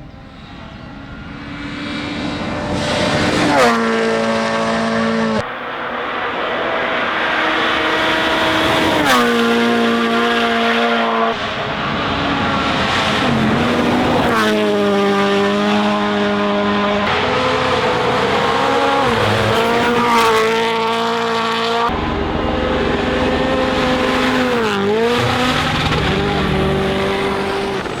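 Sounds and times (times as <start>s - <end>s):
rally car engines at high revs: 0.0s - 28.0s.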